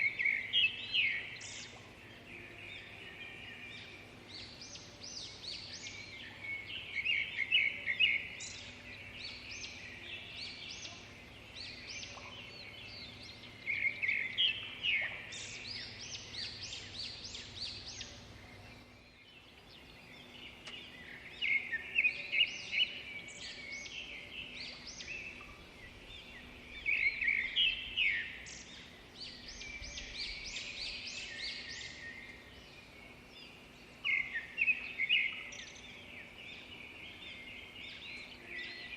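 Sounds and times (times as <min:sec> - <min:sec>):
bird chirps and trills: 0:00.0 - 0:38.9
faint steady hum: 0:00.0 - 0:38.9.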